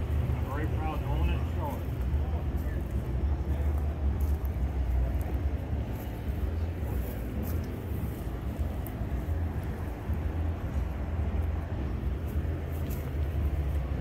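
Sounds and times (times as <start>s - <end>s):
low machinery rumble: 0.0s - 14.0s
noisy hiss: 0.0s - 14.0s.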